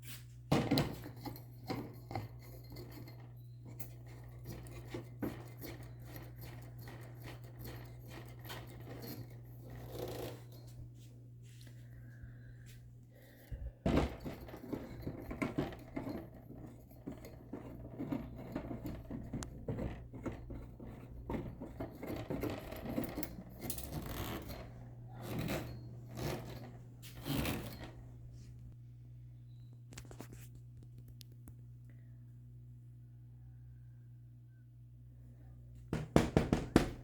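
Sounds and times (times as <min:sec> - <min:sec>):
steady low hum: 0:00.1 - 0:29.9.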